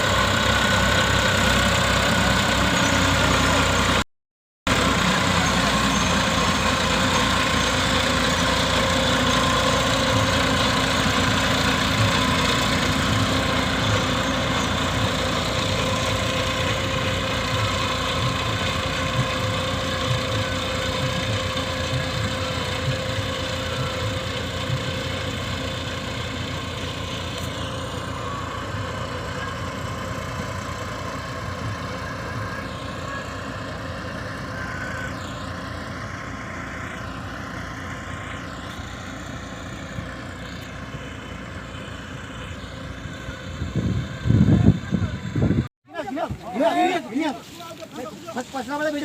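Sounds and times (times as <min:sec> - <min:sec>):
motor engine running: 0:00.0 - 0:04.0, 0:04.7 - 0:49.0.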